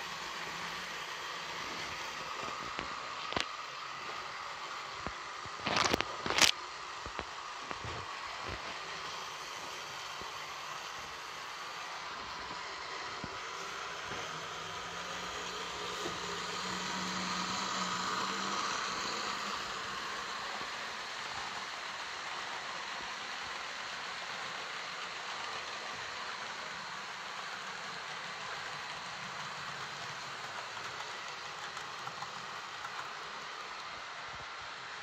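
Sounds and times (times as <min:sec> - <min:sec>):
model train whirring on track: 0:00.0 - 0:35.0.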